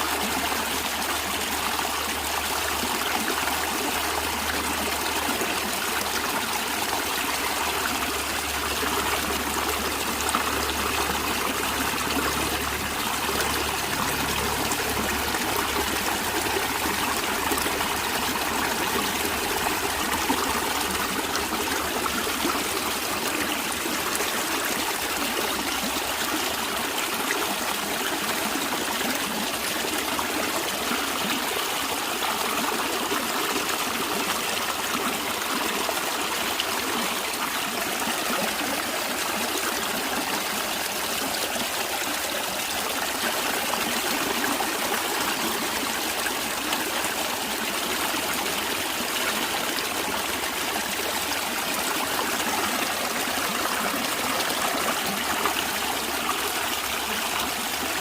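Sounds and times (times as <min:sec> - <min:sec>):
stream water flowing over rocks: 0:00.0 - 0:58.0.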